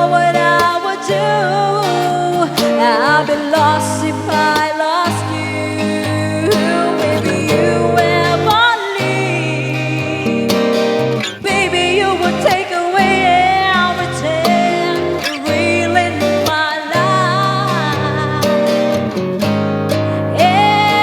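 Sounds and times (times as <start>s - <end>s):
acoustic guitar: 0.0s - 21.0s
person singing a pop ballad: 0.0s - 21.0s.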